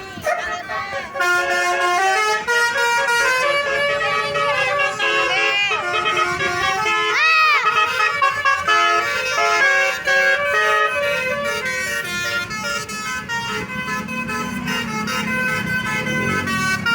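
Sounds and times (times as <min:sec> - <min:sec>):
musical air horn tune: 0:00.2 - 0:16.9.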